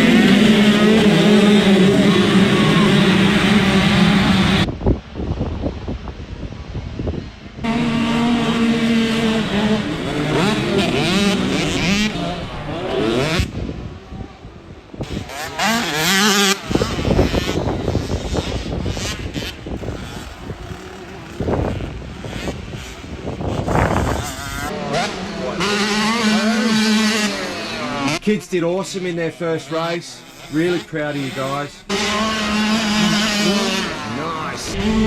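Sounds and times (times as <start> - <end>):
motocross bikes racing: 0.0 - 4.7, 7.6 - 35.0.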